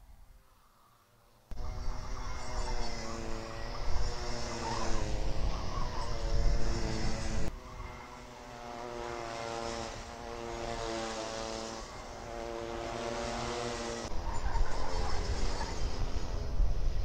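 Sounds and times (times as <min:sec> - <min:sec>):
distant kart engines droning: 0:01.5 - 0:17.0.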